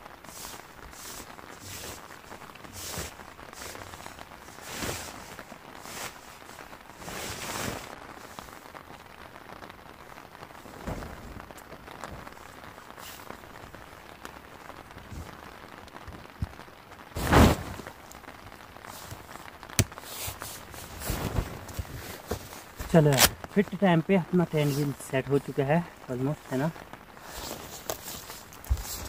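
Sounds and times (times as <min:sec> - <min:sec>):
light rain hissing: 0:00.0 - 0:29.0
tent fabric rustling: 0:00.0 - 0:29.0.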